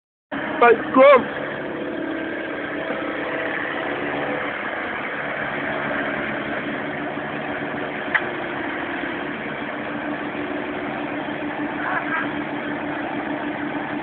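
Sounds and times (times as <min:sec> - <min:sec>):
motor running: 0:00.3 - 0:14.0.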